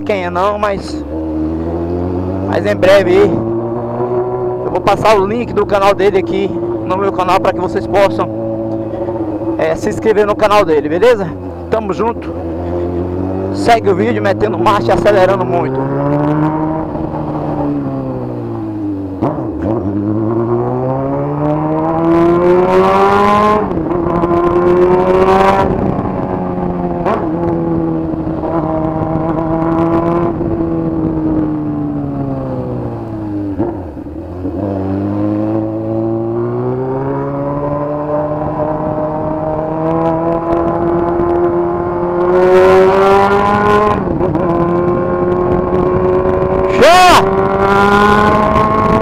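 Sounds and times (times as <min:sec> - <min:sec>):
motorcycle engine accelerating: 0:00.0 - 0:49.0.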